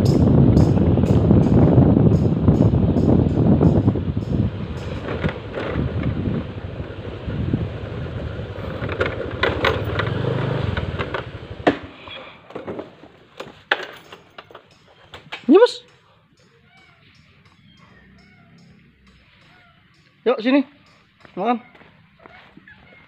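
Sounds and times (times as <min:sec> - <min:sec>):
wind and movement rumble: 0:00.0 - 0:23.0.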